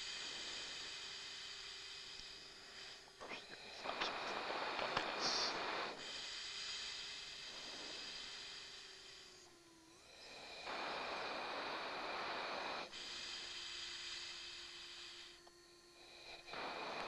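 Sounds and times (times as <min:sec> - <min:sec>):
breathing through oxygen mask: 0:00.0 - 0:17.0.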